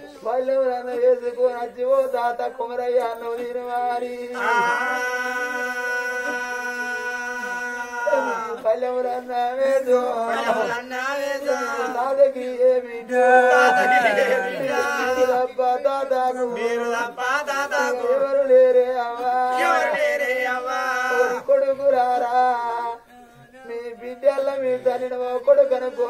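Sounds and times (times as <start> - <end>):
person chanting a ballad: 0.0 - 26.0.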